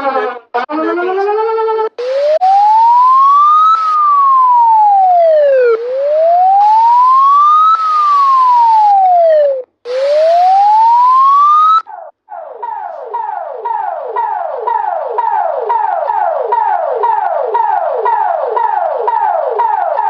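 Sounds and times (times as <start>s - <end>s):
emergency siren wailing: 0.6s - 20.0s.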